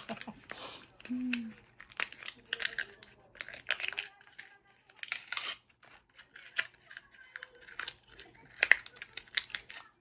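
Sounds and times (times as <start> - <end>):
packaging snapping: 1.0 - 9.9.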